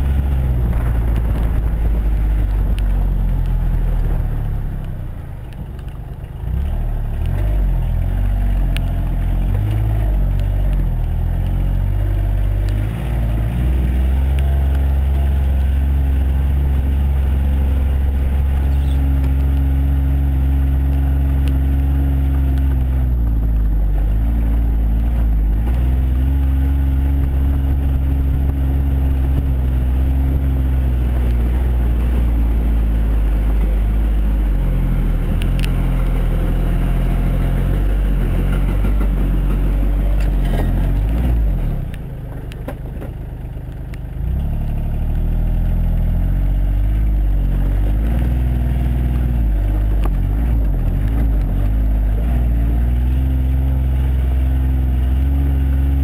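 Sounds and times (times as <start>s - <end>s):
diesel utility vehicle engine: 0.0s - 56.0s.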